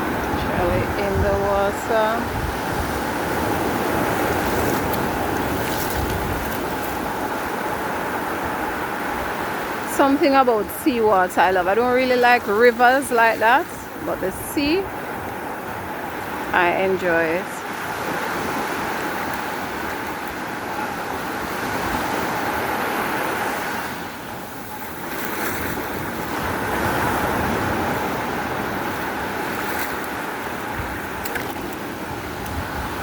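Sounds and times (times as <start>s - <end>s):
sea waves washing ashore: 0.0s - 33.0s
wind on microphone: 0.0s - 33.0s.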